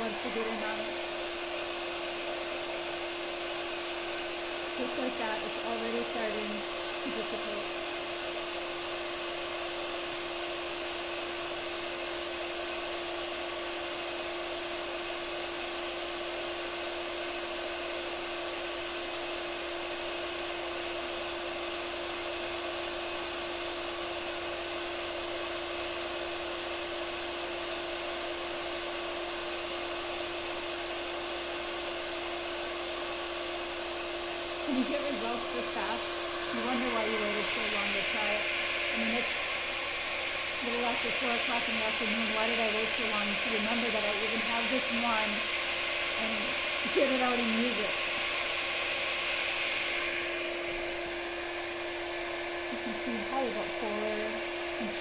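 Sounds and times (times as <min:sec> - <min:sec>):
small fan whirring: 0:00.0 - 0:55.0.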